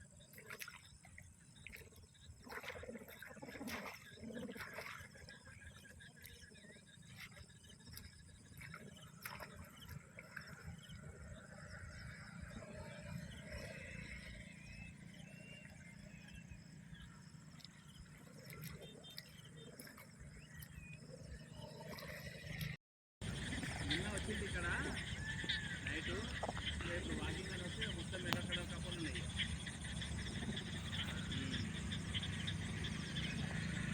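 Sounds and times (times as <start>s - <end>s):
frogs croaking: 0.0s - 33.9s.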